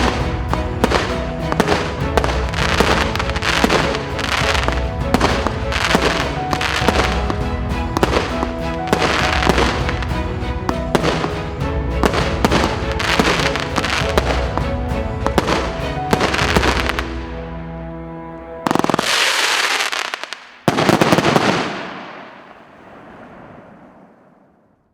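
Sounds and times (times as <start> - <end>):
crackling fireworks bursts: 0.0 - 17.2, 18.7 - 24.7
fireworks volley: 0.0 - 17.4, 18.6 - 24.8.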